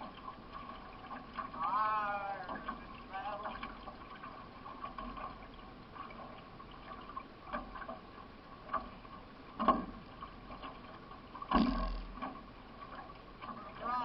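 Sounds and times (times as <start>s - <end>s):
steady wash of water: 0.0s - 14.0s.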